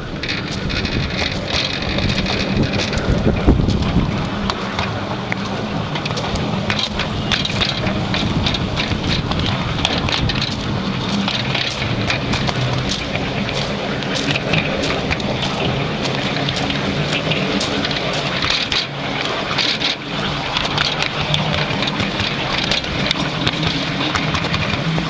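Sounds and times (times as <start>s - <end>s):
clicks and clatter of wheels: 0.0s - 25.0s
train wheels rumbling on rails: 0.0s - 25.0s.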